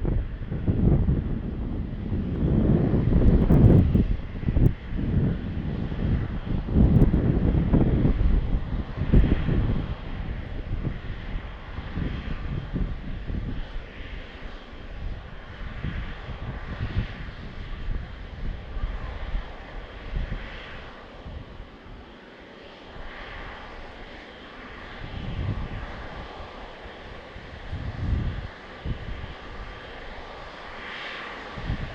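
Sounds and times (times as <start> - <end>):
jet engines rushing: 0.0 - 31.9.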